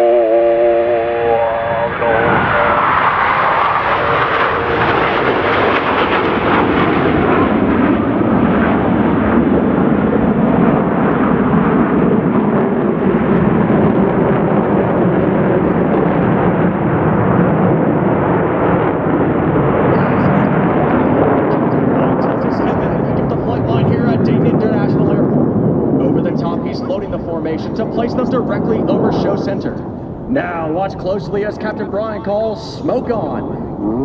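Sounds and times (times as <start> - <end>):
jet roar flying past: 0.0 - 34.0.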